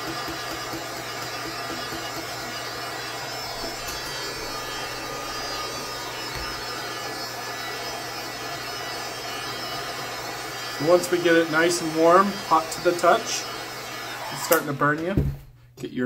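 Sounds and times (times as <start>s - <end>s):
heat gun blower whirring: 0.0s - 15.3s.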